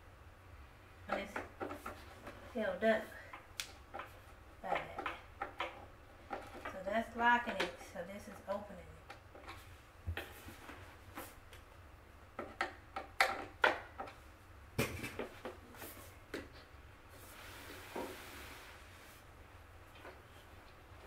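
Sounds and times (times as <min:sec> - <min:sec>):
soft rustling hiss: 0:00.0 - 0:12.4, 0:14.1 - 0:21.0.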